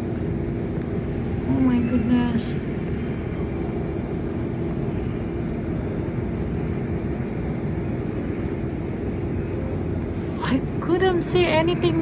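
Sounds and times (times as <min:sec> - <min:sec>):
jet engines roaring on takeoff: 0:00.0 - 0:12.0.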